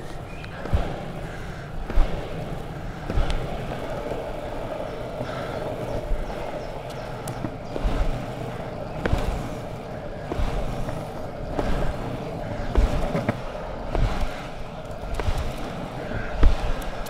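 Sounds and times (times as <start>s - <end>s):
foot pushing off ground: 0.0s - 17.0s
longboard wheels rolling on asphalt: 0.0s - 17.0s.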